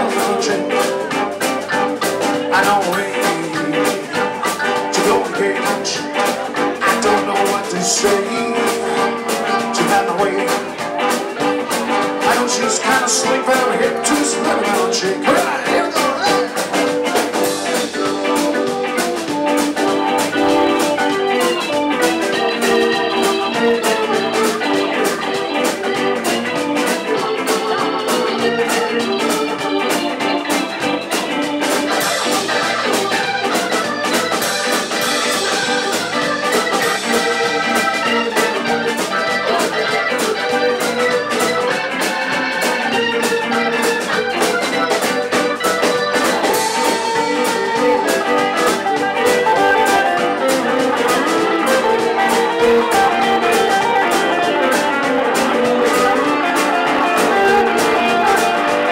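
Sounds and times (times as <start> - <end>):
drum kit beat: 0.0 - 58.9
electric bass: 0.0 - 58.9
electric guitars: 0.0 - 58.9
organ: 0.0 - 58.9.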